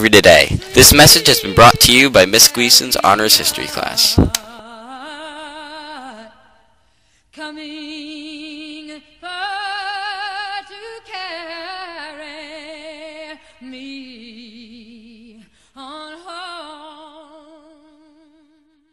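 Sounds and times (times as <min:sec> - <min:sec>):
woman singing with vibrato: 0:00.5 - 0:18.9.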